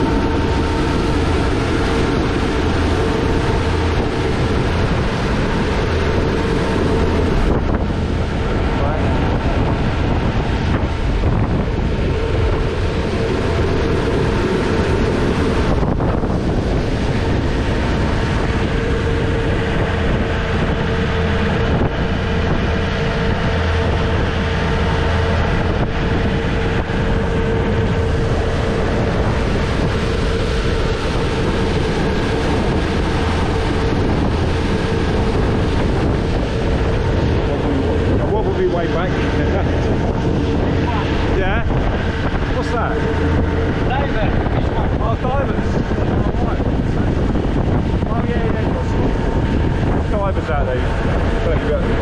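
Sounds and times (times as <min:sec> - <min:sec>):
boat engine droning: 0:00.0 - 0:52.0
water rushing past: 0:00.0 - 0:52.0
wind buffeting microphone: 0:00.0 - 0:52.0.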